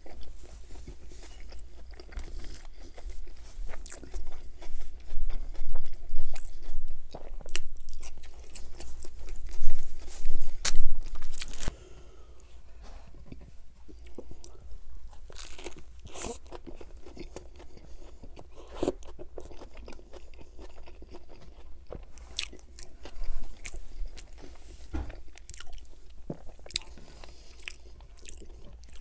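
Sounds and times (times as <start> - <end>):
person chewing burger: 0.0 - 11.8, 13.2 - 29.0.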